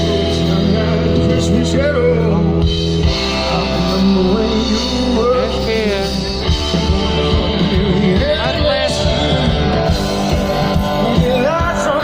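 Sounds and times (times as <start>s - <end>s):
rock band over loudspeakers: 0.0s - 12.0s.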